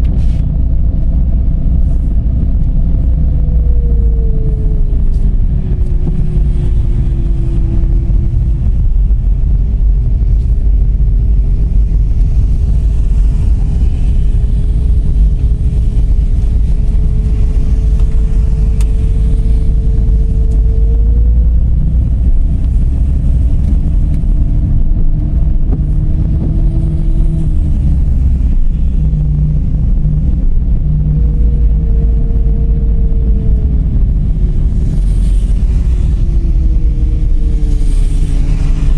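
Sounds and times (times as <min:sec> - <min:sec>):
car engine rumbling while driving: 0:00.0 - 0:38.9
road noise: 0:00.0 - 0:38.9.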